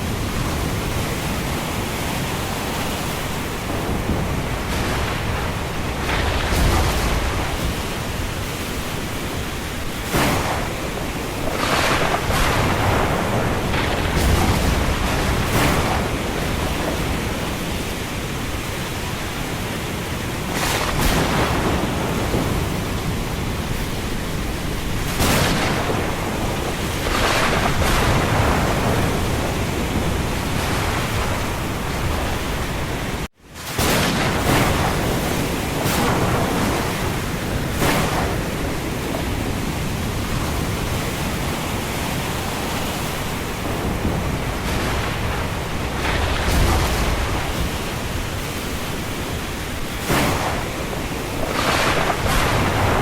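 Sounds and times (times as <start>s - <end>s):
wind and rain rushing: 0.0s - 53.0s.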